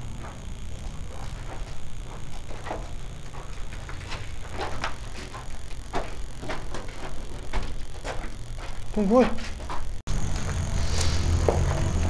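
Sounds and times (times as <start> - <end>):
footsteps on hard floor: 0.1 - 12.0.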